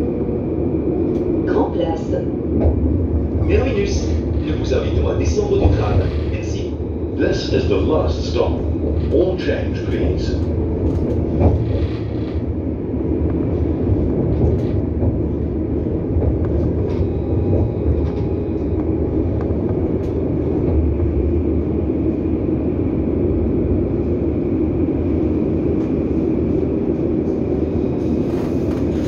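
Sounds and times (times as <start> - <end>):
tram wheels rumbling on rails: 0.0 - 29.0.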